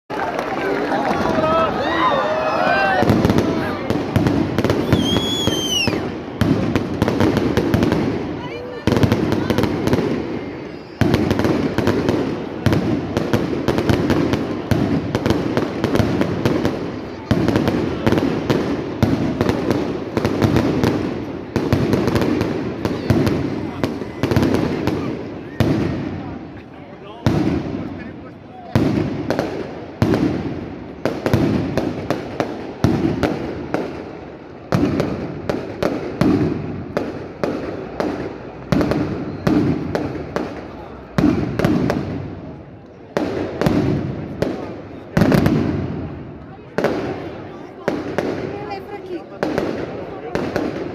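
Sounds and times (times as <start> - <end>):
fireworks bangs and crackles: 0.1 - 50.9.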